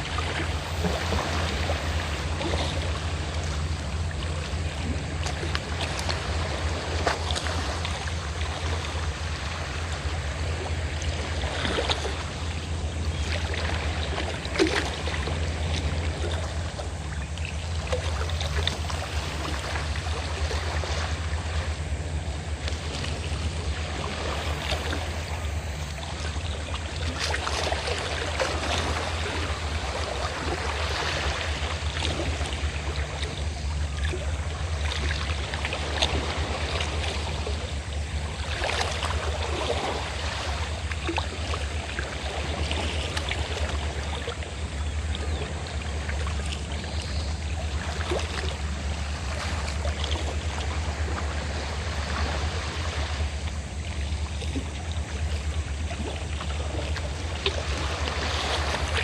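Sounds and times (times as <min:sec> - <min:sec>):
boat engine drone: 0:00.0 - 0:59.0
small waves splashing at shore: 0:00.0 - 0:59.0.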